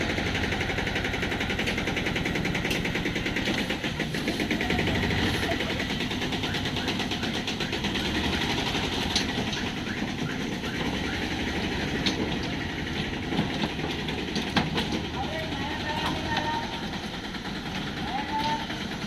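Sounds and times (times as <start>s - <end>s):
sharp clicks and knocks: 1.4s - 4.9s, 5.9s - 11.0s, 11.8s - 19.0s.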